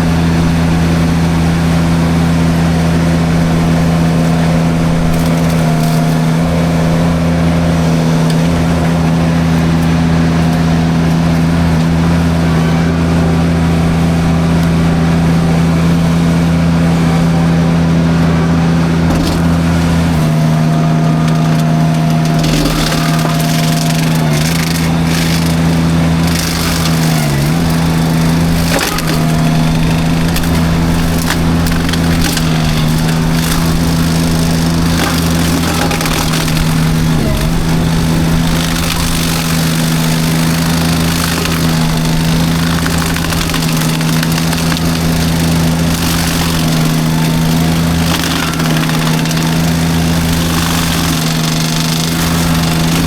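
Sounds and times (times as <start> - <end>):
mulcher humming: 0.0 - 53.0
wood crackling and splintering: 0.0 - 53.0.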